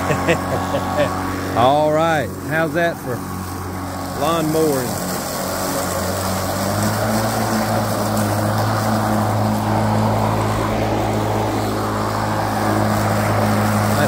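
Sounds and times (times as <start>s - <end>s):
electric lawn mower running: 0.0s - 14.0s.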